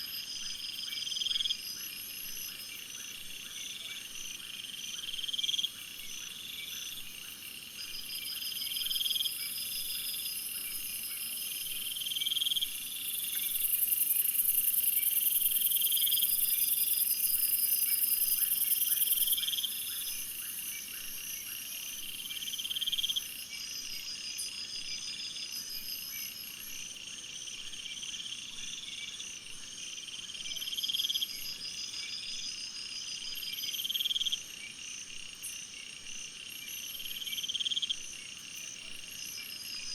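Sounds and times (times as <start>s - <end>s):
faint pulsed insect call: 0.0s - 39.9s
very high steady insect buzz: 0.0s - 39.9s.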